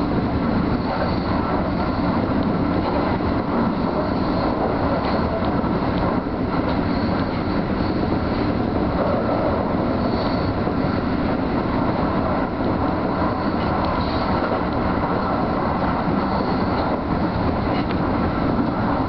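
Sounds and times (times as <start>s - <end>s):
train motor noise: 0.0s - 19.0s
train wheels rumbling on rail: 0.0s - 19.0s.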